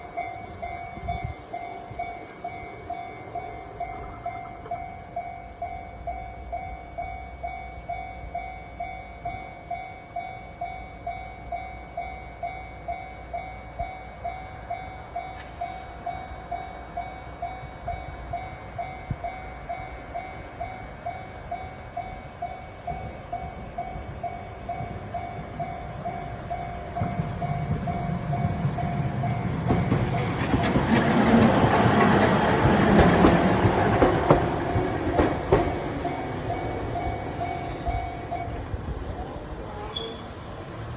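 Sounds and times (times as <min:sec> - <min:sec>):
approaching train rumble: 0:00.0 - 0:40.9
level-crossing warning bell: 0:00.0 - 0:40.9.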